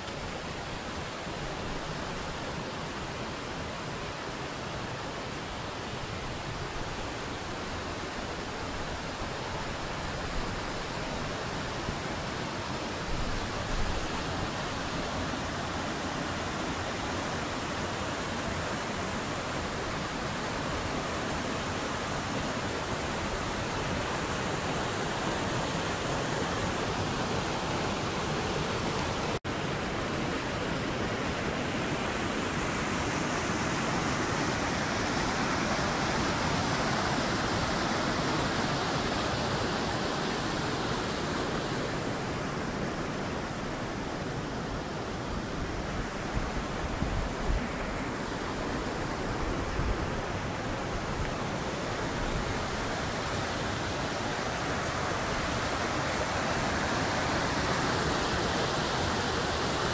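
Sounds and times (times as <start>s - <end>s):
river rushing over boulders: 0.0s - 59.9s.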